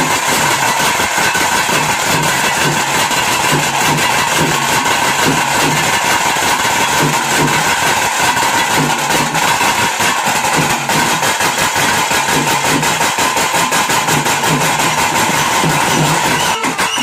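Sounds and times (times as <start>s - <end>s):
drums beaten in fast rhythm: 0.0s - 17.0s.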